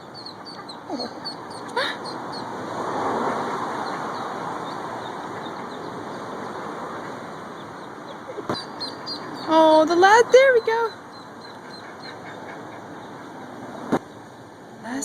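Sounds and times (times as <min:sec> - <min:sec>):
ducklings peeping: 0:00.0 - 0:14.3
broad rushing noise: 0:00.0 - 0:14.7.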